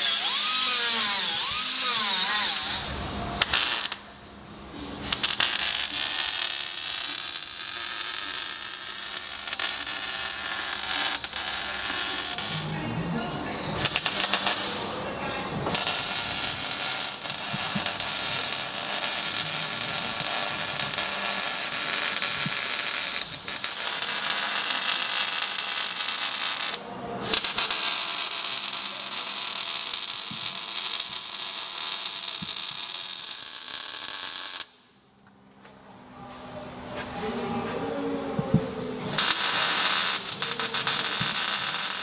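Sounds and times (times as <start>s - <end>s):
welder arc crackling: 0.0s - 4.0s, 5.1s - 12.8s, 13.8s - 14.8s, 15.7s - 34.7s, 39.1s - 42.0s.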